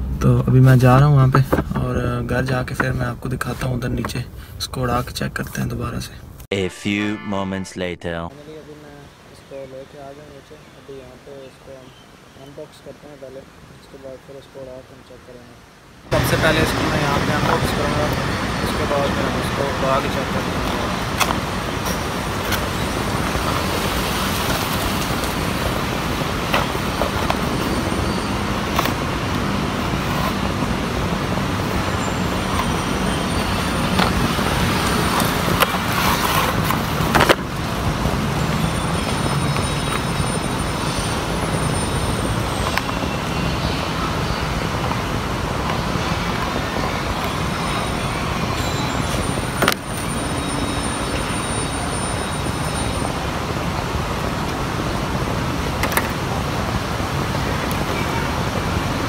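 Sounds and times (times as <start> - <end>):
road traffic: 0.0 - 5.0, 7.8 - 59.0.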